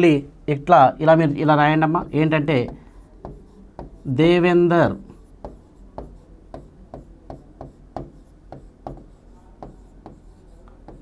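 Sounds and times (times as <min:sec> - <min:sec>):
stylus tapping and scraping on screen: 0:01.7 - 0:11.0.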